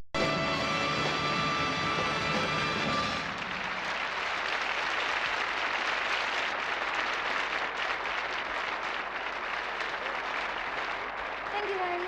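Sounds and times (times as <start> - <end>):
large audience applauding: 0.2 - 12.0.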